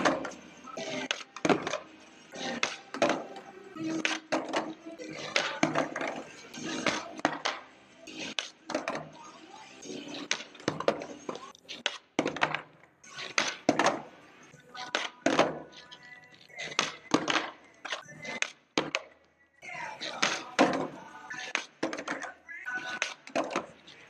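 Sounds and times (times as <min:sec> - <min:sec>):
skateboard clacking on concrete: 0:00.0 - 0:09.1, 0:10.1 - 0:14.1, 0:14.7 - 0:15.8, 0:16.6 - 0:19.1, 0:20.1 - 0:23.8.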